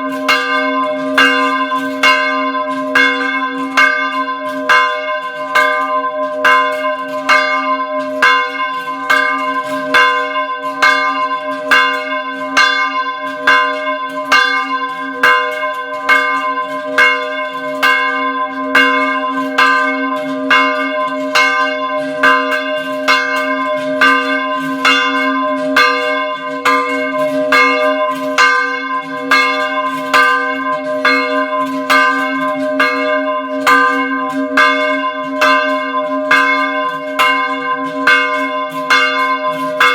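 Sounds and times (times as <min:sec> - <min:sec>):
small church bell ringing: 0:00.0 - 0:39.9.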